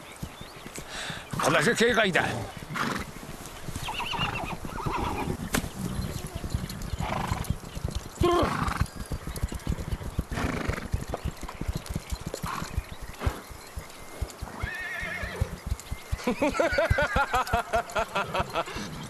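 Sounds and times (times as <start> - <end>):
horse hoofbeats: 0.0 - 19.0
horses whinnying: 0.9 - 13.5, 14.1 - 19.0.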